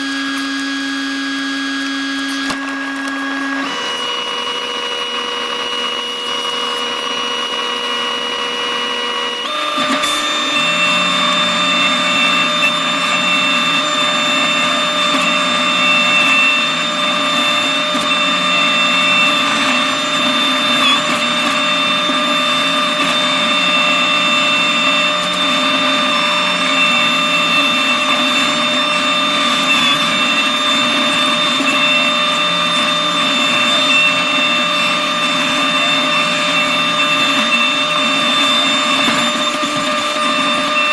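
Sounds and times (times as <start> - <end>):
skid steer mulcher whine: 0.0 - 40.9.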